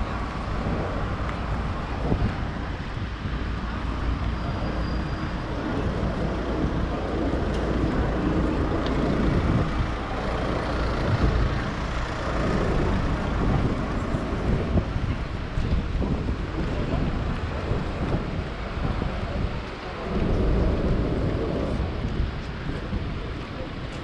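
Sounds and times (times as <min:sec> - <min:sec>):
heavy low rumble: 0:00.0 - 0:24.0
vehicle engines: 0:00.0 - 0:24.0.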